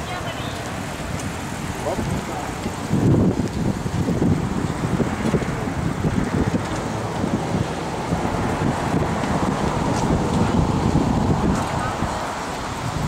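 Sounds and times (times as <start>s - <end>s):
street traffic: 0.0s - 13.0s
wind buffeting microphone: 0.0s - 13.0s.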